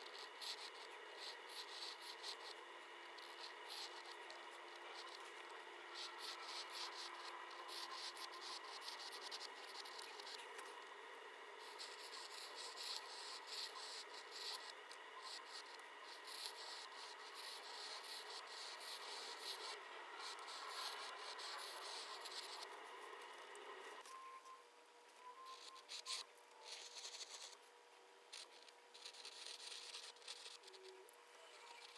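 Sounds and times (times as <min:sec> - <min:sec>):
pen nib scratching on paper: 0:00.0 - 0:10.9, 0:11.6 - 0:23.4, 0:25.4 - 0:27.6, 0:28.3 - 0:31.9.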